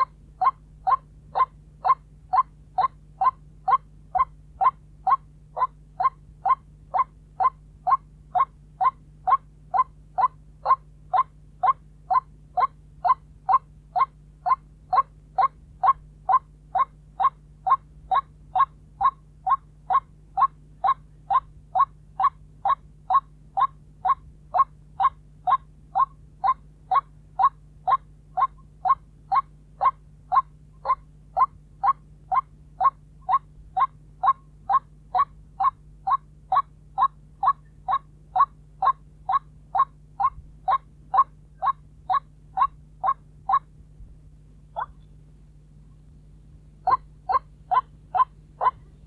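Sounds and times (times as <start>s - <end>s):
waterhen calling: 0.0s - 43.7s, 44.8s - 45.1s, 46.8s - 49.0s
faint low hum: 0.0s - 49.0s.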